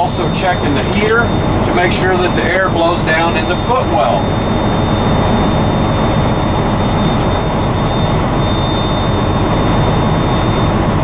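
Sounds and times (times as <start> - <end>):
diesel engine idling: 0.0 - 11.0
heater fan blowing: 0.0 - 11.0
high-pitched warning buzzer: 0.0 - 11.0.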